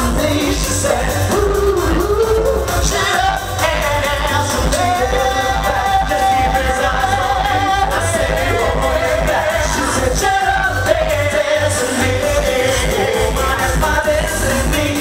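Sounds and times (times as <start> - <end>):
male vocal group singing: 0.0 - 15.0
pop music with steady beat: 0.0 - 15.0.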